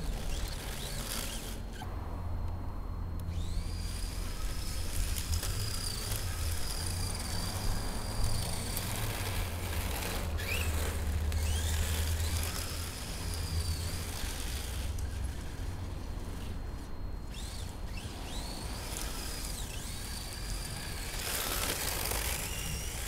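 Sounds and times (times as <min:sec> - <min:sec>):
rc car electric motor whining: 0:00.0 - 0:01.9, 0:03.2 - 0:23.0.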